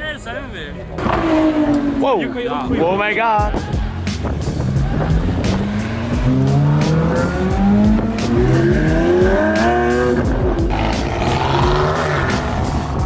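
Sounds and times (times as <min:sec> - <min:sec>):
sports car accelerating hard: 0:01.0 - 0:02.7, 0:04.1 - 0:13.0.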